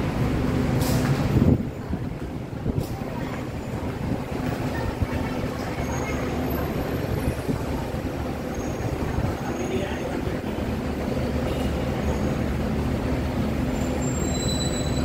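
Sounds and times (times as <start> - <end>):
city road traffic rumble: 0.0 - 15.0.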